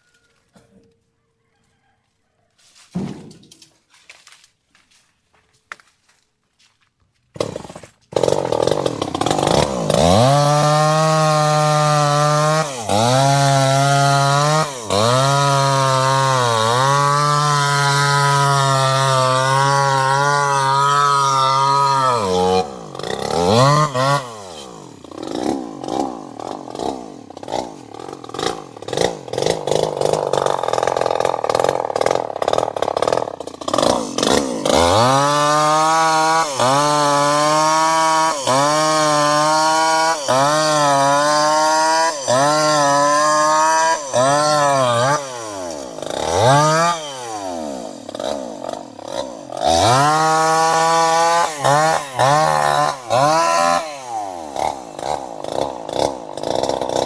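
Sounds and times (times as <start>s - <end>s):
chainsaw engine idling and revving: 7.3s - 57.0s.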